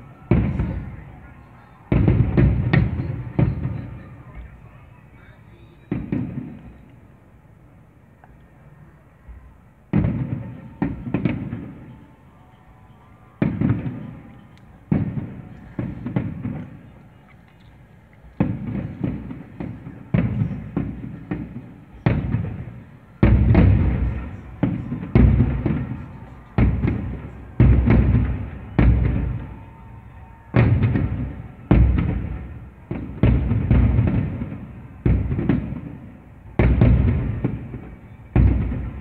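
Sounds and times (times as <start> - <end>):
fireworks booming: 0.0 - 6.9, 9.3 - 12.2, 13.1 - 39.0.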